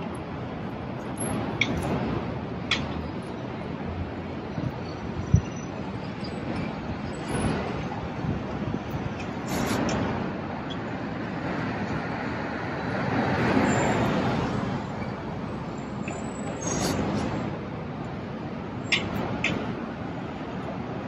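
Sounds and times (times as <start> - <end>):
traffic hum: 0.0 - 21.0.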